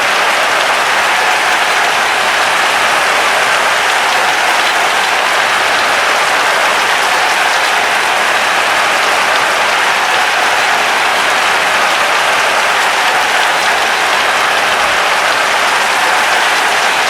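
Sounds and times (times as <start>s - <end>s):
crowd applauding and cheering: 0.0s - 17.0s.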